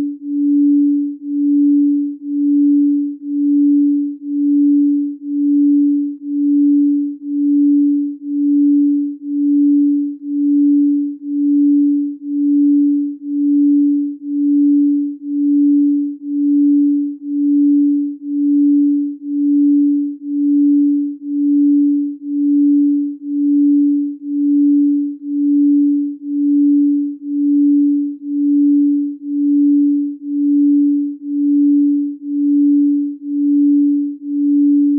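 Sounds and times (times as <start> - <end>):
pulsing sine tone: 0.0 - 34.9.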